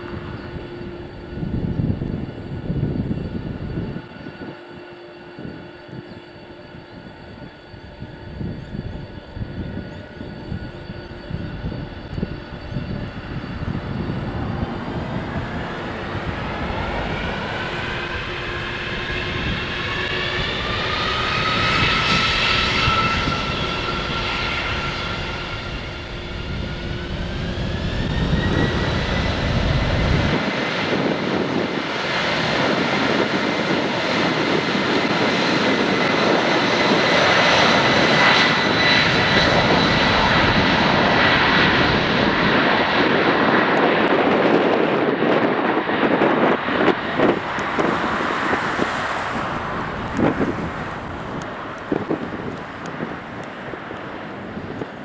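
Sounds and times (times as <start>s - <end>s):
deep rushing jet noise: 0.0s - 55.0s
jet engine whine rising: 0.0s - 55.0s.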